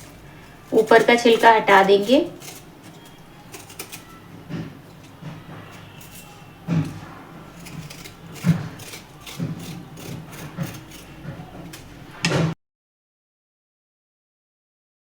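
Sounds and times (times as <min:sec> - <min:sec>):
root being scraped: 0:00.0 - 0:12.3.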